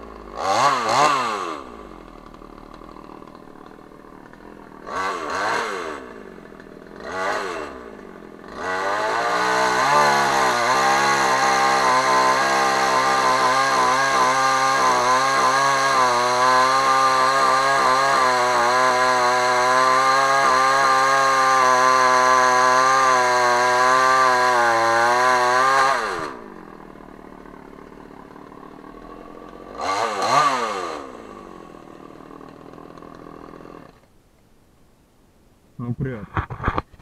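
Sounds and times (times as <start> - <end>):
chainsaw running at high revs: 0.0 - 34.1.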